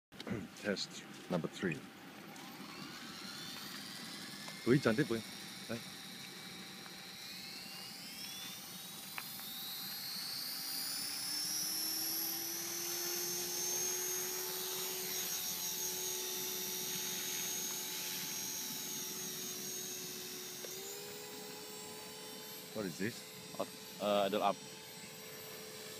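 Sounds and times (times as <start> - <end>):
rc helicopter motor whine: 0.7 - 25.9
rotor tone: 1.9 - 25.9.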